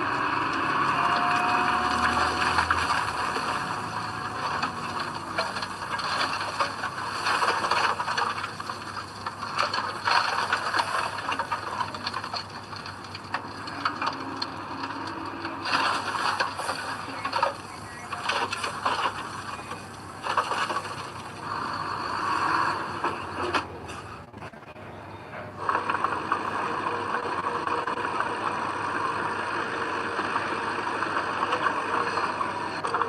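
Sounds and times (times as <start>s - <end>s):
crackling rattling soil clatter: 0.0s - 24.6s, 25.6s - 33.0s.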